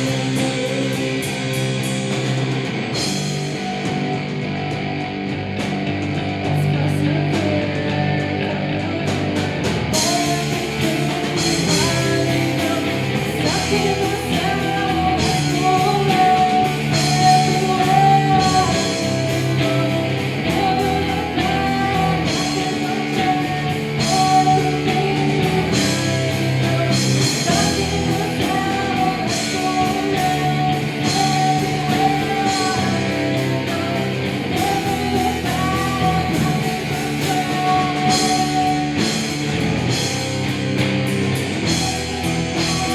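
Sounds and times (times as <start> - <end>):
rock band playing: 0.0 - 42.9.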